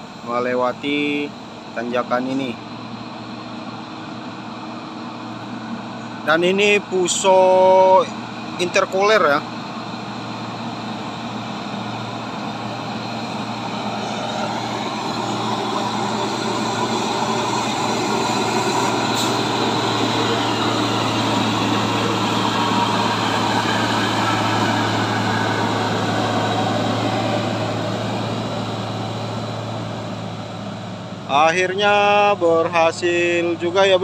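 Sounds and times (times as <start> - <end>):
diesel truck engine climbing: 0.0 - 34.0.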